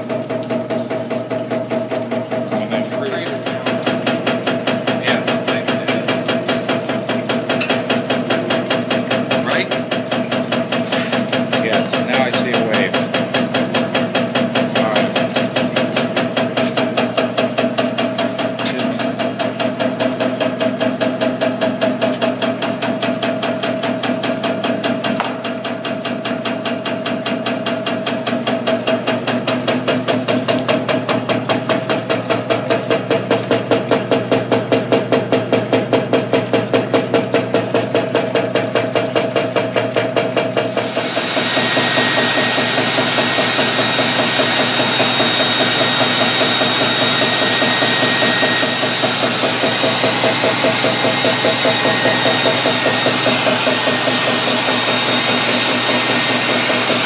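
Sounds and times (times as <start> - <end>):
rhythmic mechanical knocking: 0.0 - 57.0
steady motor hum: 0.0 - 57.0.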